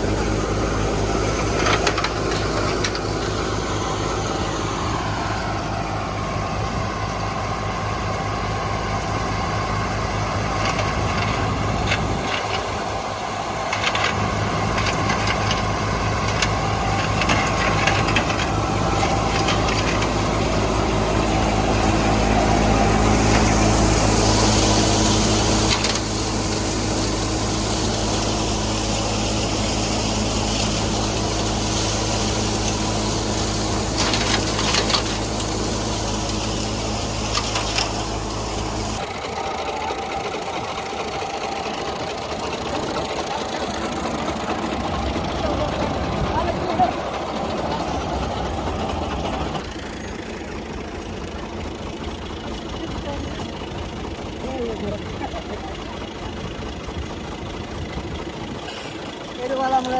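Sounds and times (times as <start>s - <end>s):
combine harvester engine humming: 0.0s - 59.9s
machinery clicks and rattles: 0.0s - 59.9s.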